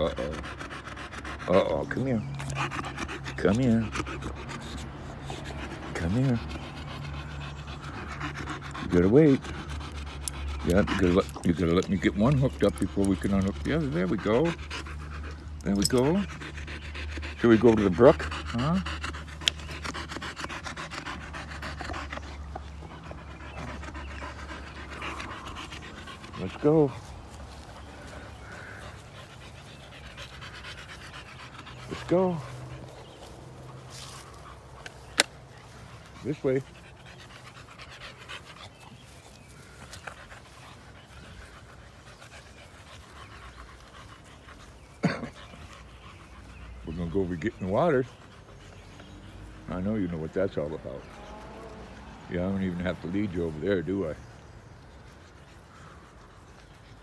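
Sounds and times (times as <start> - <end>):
dog panting: 0.0 - 57.0.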